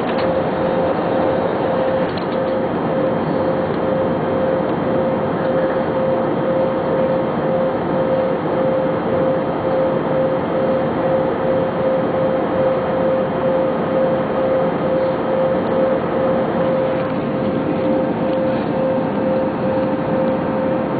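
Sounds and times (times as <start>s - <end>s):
jet engines and airflow: 0.0s - 20.9s
steady droning tone: 0.0s - 20.9s.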